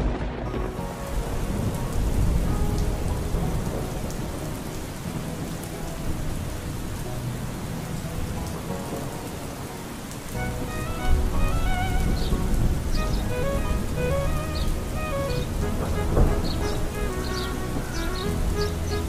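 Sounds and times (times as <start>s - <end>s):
heavy rain: 0.0s - 19.0s
thunder rumble: 0.0s - 19.0s.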